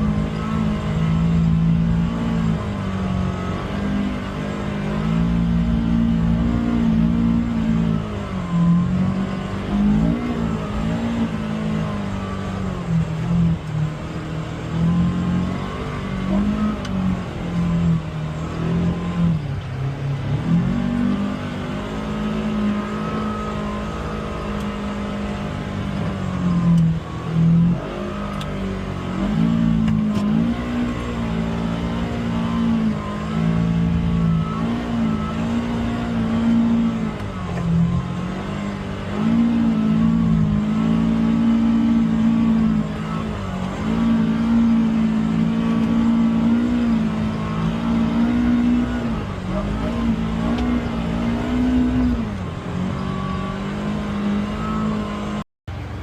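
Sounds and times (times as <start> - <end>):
utility vehicle engine revving: 0.0 - 56.0.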